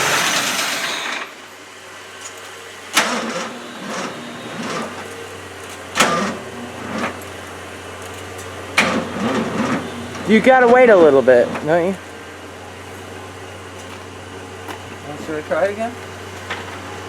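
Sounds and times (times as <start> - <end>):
engine shutting off: 0.0 - 17.0.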